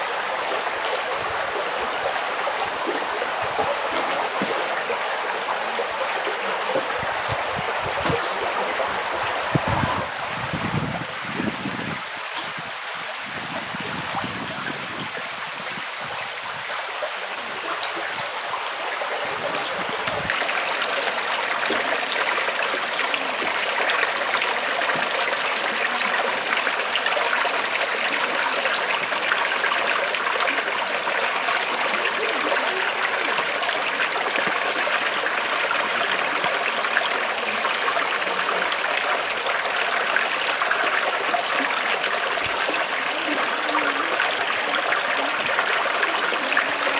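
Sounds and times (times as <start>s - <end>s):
creek running over rocks: 0.0s - 46.9s.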